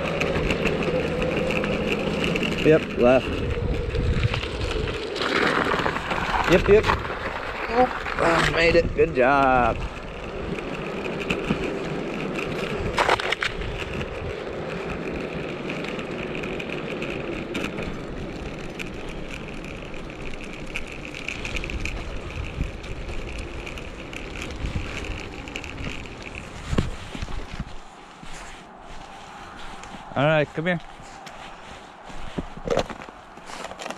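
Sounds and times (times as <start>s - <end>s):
tyres rolling over pavement: 0.0s - 33.9s.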